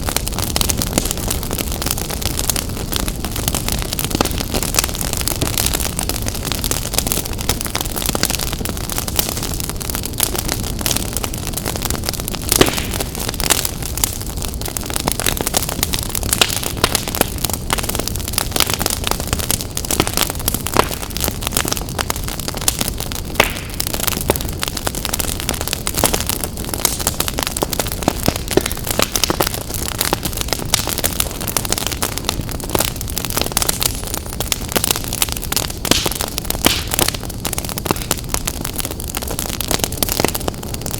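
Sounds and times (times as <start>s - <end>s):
low rumble of flame: 0.0s - 40.9s
wood fire crackling and popping: 0.0s - 40.9s.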